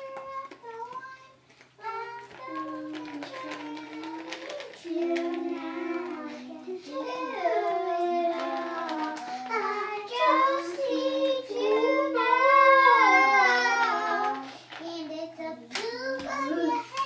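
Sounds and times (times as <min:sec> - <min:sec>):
children singing: 0:00.0 - 0:17.0.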